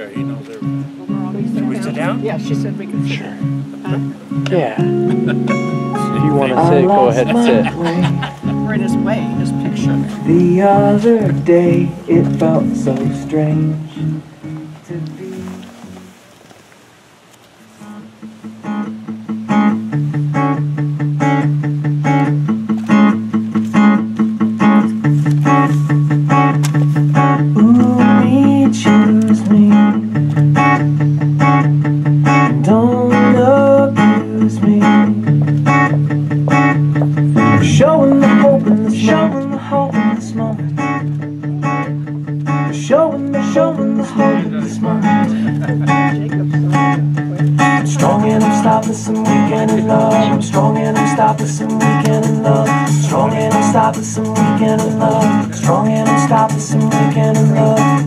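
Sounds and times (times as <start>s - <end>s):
acoustic guitar instrumental: 0.0s - 58.0s.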